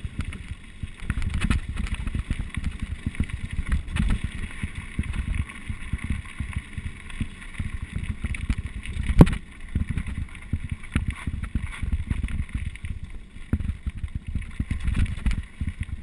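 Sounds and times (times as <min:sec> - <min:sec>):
mountain bike rattling on rough trail: 0:00.0 - 0:16.0.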